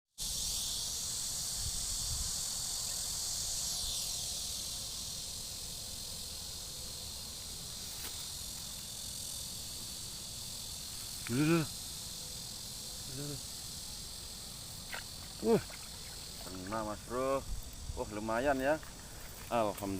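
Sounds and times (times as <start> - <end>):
insects chorus: 0.1 - 19.9.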